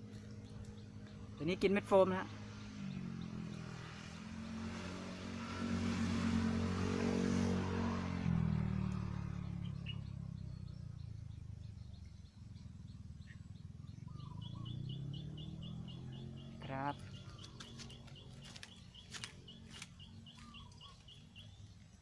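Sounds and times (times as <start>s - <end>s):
bird chirping: 0.0s - 22.0s
engine passing by: 0.0s - 22.0s.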